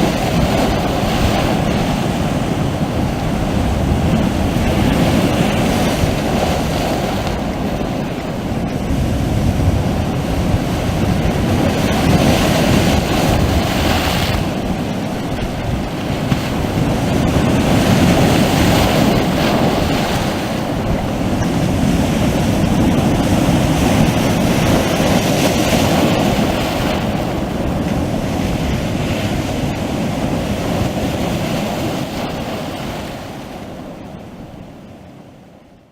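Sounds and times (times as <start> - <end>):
sea waves washing ashore: 0.0 - 35.9.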